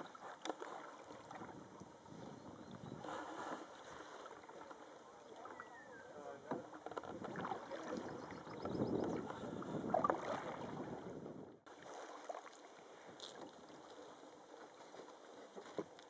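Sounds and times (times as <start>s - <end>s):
water lapping: 0.0s - 16.0s
water splashing around paddled canoe: 0.0s - 16.0s.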